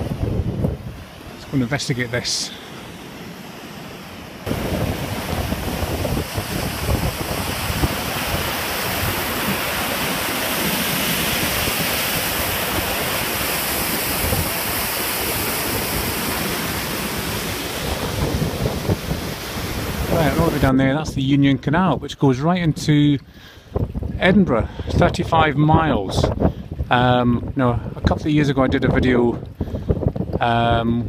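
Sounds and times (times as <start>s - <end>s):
wind buffeting microphone: 0.0s - 2.3s, 4.4s - 31.0s.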